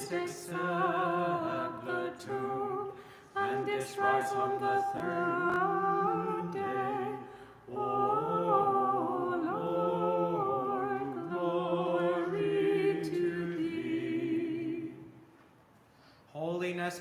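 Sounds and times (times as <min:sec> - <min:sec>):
unaccompanied liturgical chant: 0:00.0 - 0:15.2.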